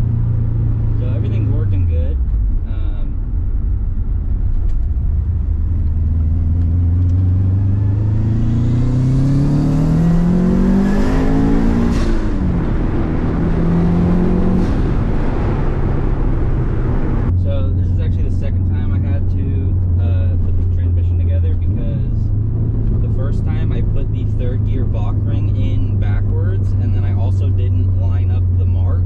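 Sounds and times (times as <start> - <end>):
car engine accelerating through gears: 0.0 - 29.0.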